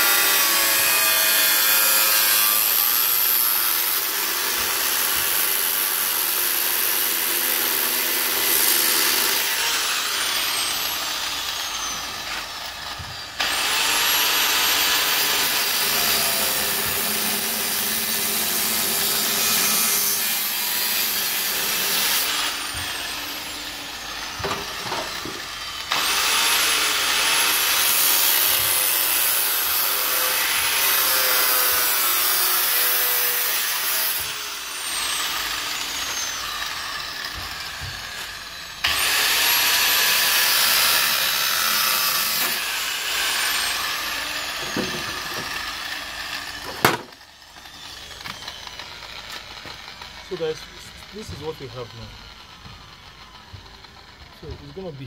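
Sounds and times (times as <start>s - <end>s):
angle grinder cutting metal: 0.0s - 55.0s.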